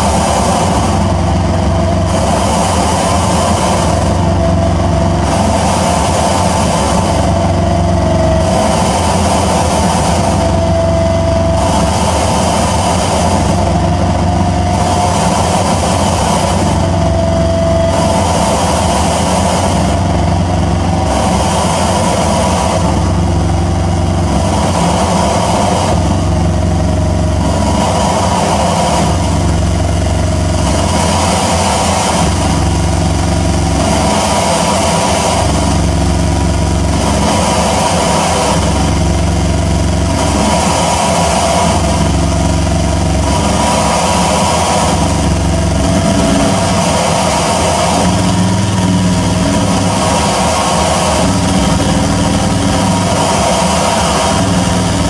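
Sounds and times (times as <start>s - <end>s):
droning electronic noise music: 0.0s - 55.0s.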